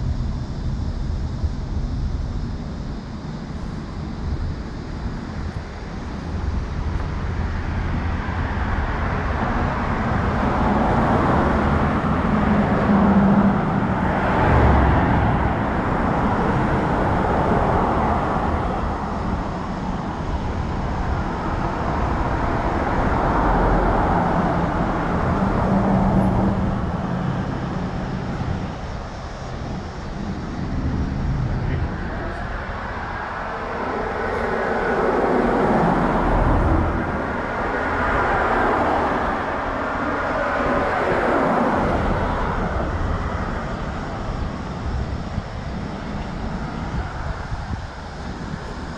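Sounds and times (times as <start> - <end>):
cars passing: 2.4 - 48.9.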